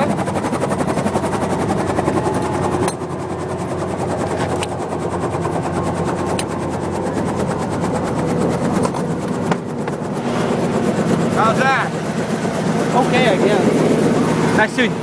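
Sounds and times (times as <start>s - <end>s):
helicopter engine noise: 0.0s - 15.0s
helicopter rotor chopping: 0.0s - 15.0s.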